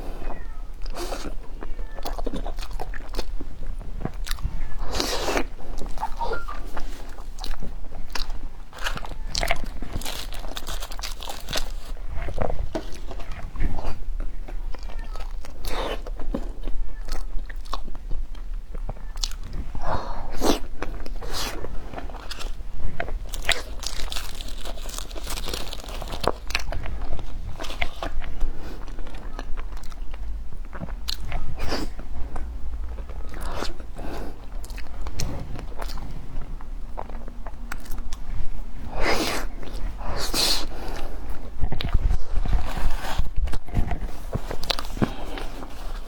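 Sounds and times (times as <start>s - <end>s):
crunchy food being chewed: 0.0s - 46.0s.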